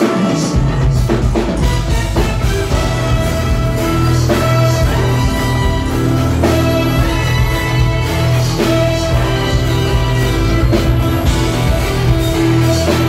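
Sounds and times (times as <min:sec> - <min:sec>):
bass: 0:00.0 - 0:13.0
drum kit: 0:00.0 - 0:13.0
electric guitar: 0:00.0 - 0:13.0
keyboards: 0:00.0 - 0:13.0
trumpet: 0:00.0 - 0:13.0.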